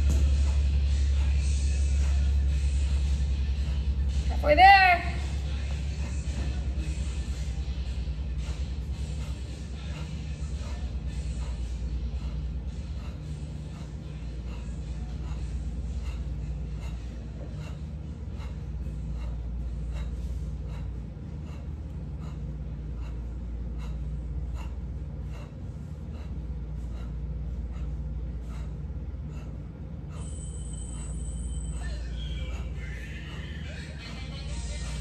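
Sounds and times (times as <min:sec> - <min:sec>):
sharp rhythmic exhalations: 0:00.0 - 0:35.0
steady low hum: 0:00.0 - 0:35.0.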